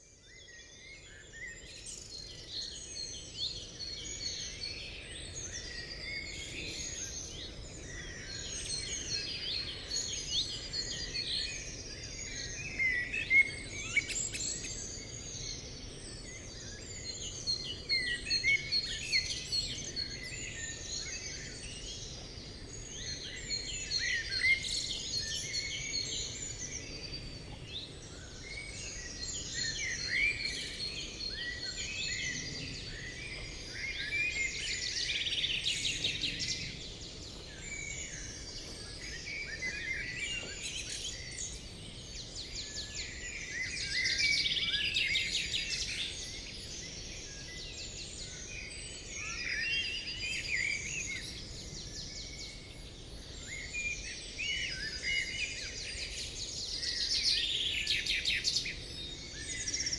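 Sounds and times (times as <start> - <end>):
birds chirping in chorus: 0.0 - 59.9.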